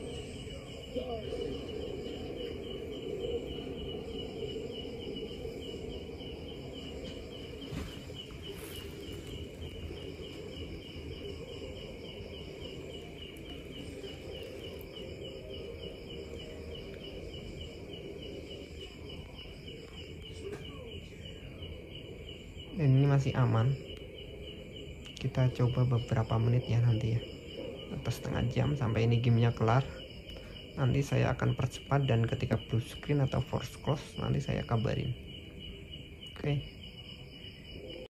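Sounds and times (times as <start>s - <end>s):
cricket chirping: 0.0s - 38.0s
low steady hum: 0.0s - 38.0s.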